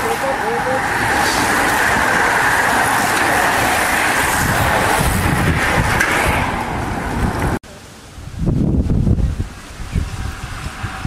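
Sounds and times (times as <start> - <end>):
bicycles whirring past: 0.0 - 7.6, 9.1 - 11.0
wind rumble on microphone: 0.8 - 11.0.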